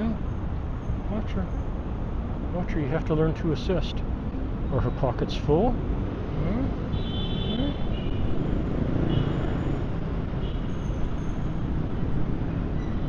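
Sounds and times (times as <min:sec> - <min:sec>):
city road traffic rumble: 0:00.0 - 0:13.0.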